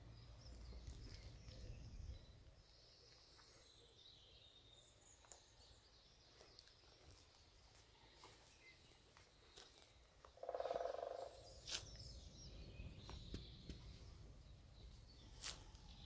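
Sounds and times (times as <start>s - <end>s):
small birds chirping: 0.0s - 16.0s
soft footsteps on path: 0.4s - 3.8s, 5.2s - 16.0s.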